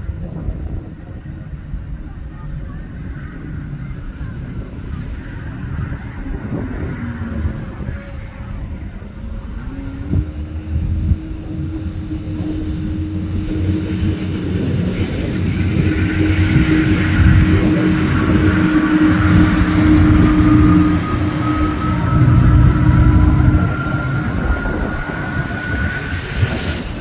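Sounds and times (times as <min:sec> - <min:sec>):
faint rising whine: 0:00.0 - 0:27.0
vehicle engine droning: 0:00.0 - 0:27.0.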